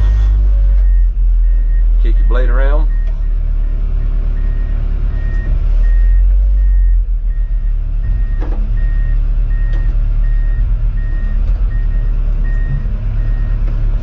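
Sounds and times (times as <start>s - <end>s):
diesel engine running: 0.0s - 14.0s
reverse back-up alarm beeping: 0.1s - 3.8s, 4.4s - 14.0s.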